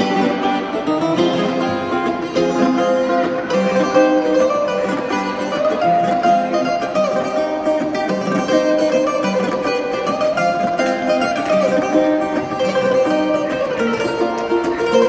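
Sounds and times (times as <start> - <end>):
bouzoukis playing plucked melody: 0.0 - 15.0.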